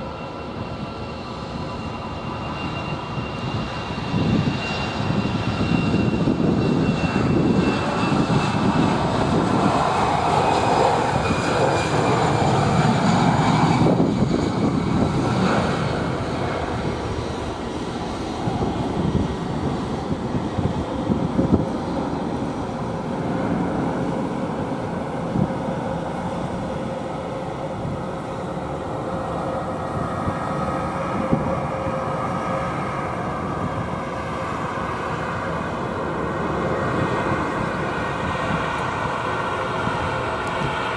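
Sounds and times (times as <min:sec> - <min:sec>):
jet engines at takeoff: 0:00.0 - 0:40.9.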